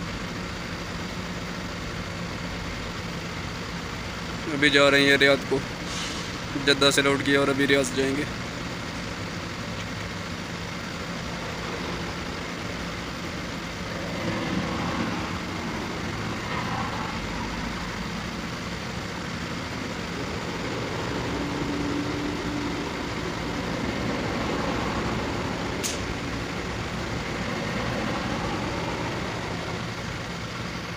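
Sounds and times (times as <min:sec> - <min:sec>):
diesel truck engine running: 0:00.0 - 0:30.9.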